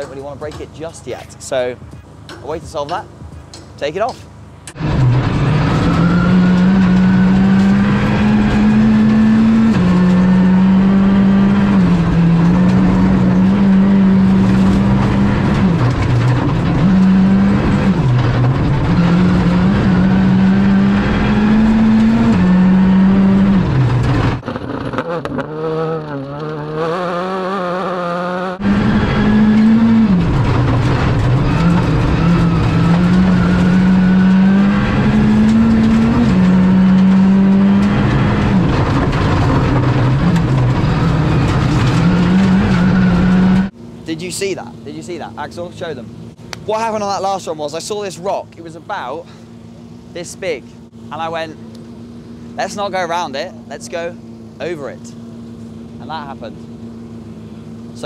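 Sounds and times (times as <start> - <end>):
car engine revving with gear changes: 0.0 - 58.0.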